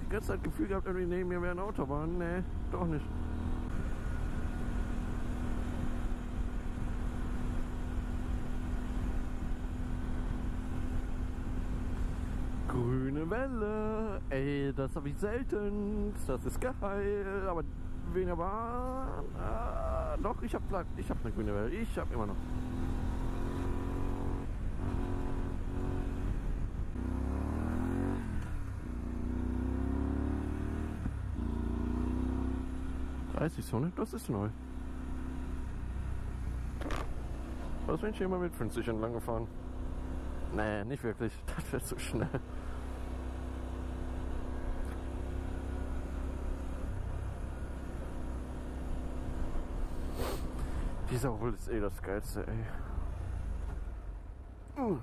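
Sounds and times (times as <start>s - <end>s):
motorcycle engine at steady revs: 0.0s - 54.2s.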